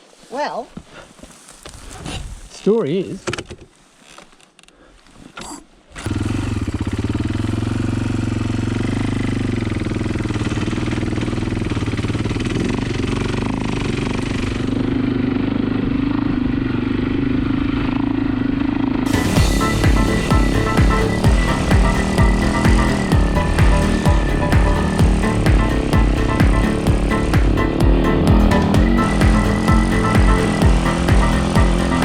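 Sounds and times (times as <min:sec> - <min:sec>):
dirt bike engine running: 0:06.0 - 0:32.0.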